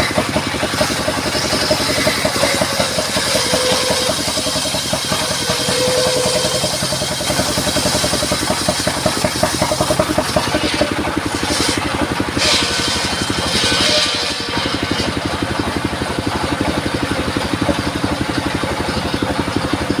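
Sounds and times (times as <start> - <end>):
sawmill engine running: 0.0 - 20.0.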